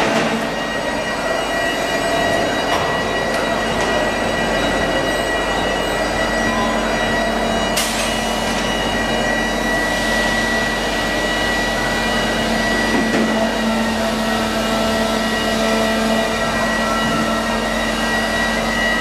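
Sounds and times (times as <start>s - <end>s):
machine humming and whining: 0.0s - 19.0s.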